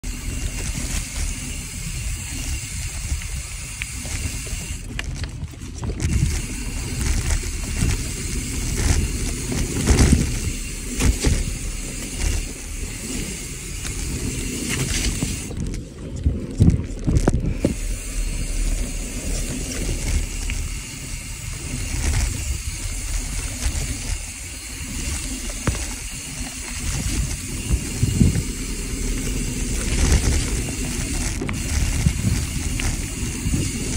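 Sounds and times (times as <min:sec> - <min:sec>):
bike knocking and rattling: 0:00.0 - 0:33.9
bike tyres rolling over dirt: 0:00.0 - 0:33.9
wind buffeting microphone: 0:00.0 - 0:33.9.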